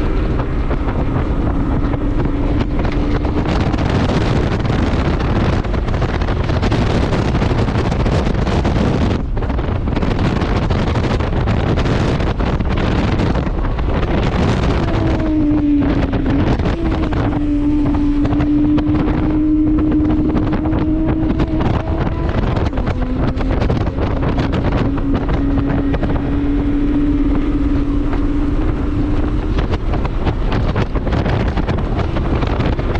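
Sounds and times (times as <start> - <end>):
steady drone: 0.0 - 32.9
wind buffeting microphone: 0.0 - 32.9.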